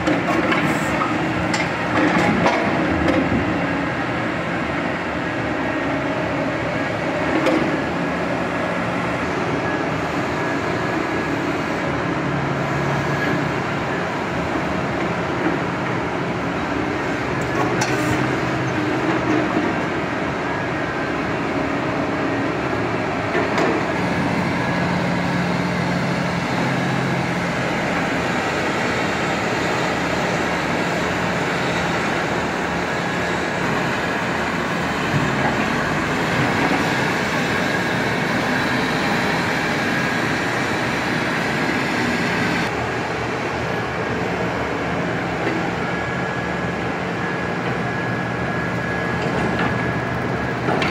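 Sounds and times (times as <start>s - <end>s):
heavy diesel machinery running: 0.0s - 50.9s
tractor engine: 0.0s - 50.9s.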